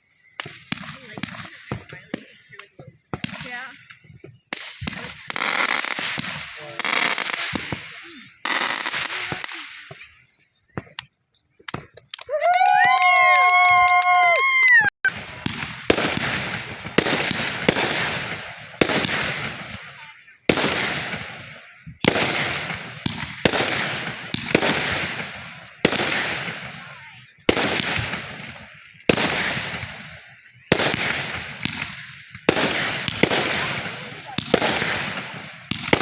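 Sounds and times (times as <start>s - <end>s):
firework bangs: 0.3s - 11.0s, 15.1s - 36.0s.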